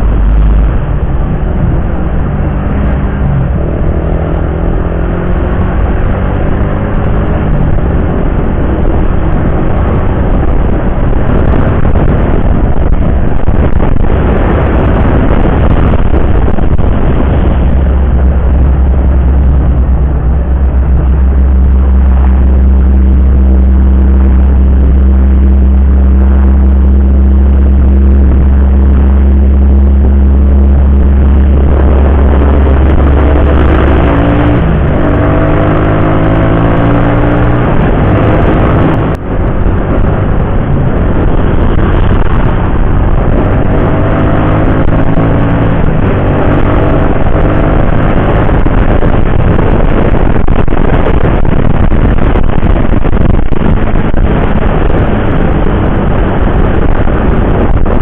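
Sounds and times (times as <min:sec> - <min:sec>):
motorcycle engine speeding up: 0:00.0 - 0:58.0
road noise: 0:00.0 - 0:58.0.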